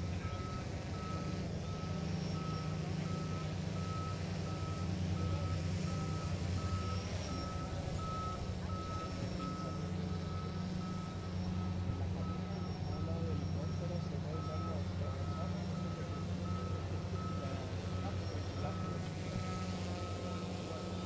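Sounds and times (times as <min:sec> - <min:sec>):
backup alarm beeping: 0:00.0 - 0:21.0
diesel engine hum: 0:00.0 - 0:21.0.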